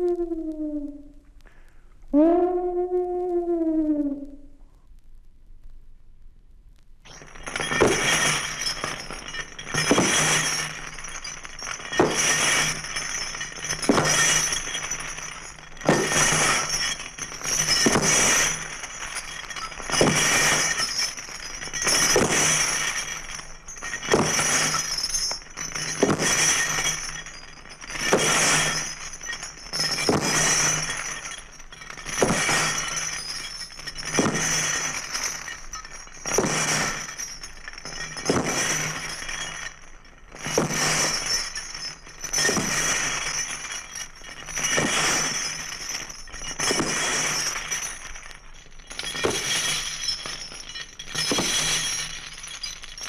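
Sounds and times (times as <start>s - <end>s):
glass breaking: 7.1s - 53.0s.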